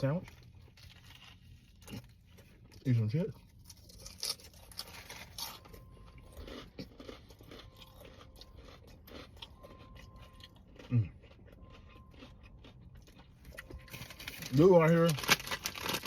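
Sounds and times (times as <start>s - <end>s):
crunchy food chewing: 0.0s - 16.0s.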